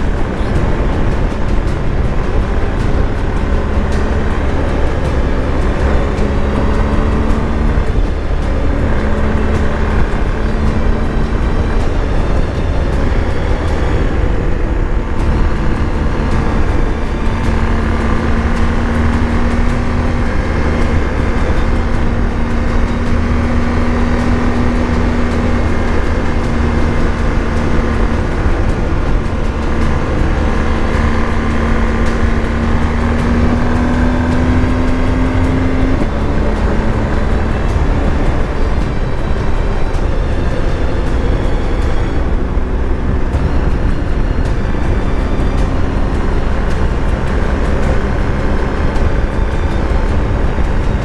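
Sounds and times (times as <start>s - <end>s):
motorcycle engine running: 0.0s - 51.0s
wind rush: 0.0s - 51.0s.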